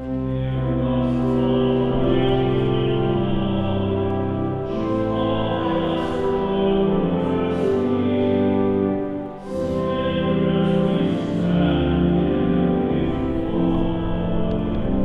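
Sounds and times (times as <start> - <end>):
church singing: 0.0 - 15.0
held organ-like chords: 0.0 - 15.0.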